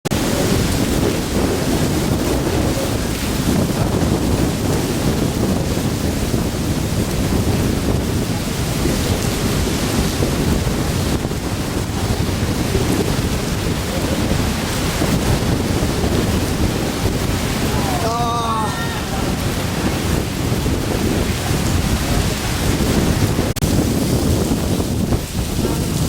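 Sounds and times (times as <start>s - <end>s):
loud low rumbling noise: 0.1s - 26.0s.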